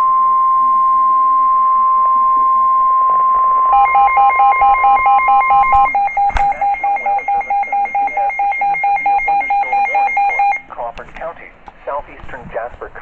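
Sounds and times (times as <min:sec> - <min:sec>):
steady high alarm tone: 0:00.0 - 0:10.7
two-pitch electronic alarm beeping: 0:00.0 - 0:10.7.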